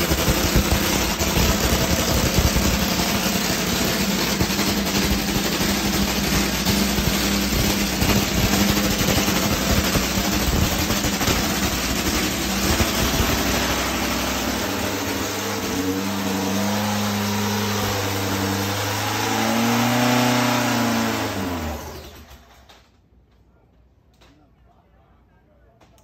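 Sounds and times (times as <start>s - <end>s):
motorcycle engine running: 0.0s - 22.2s
engine winding down: 0.0s - 22.8s.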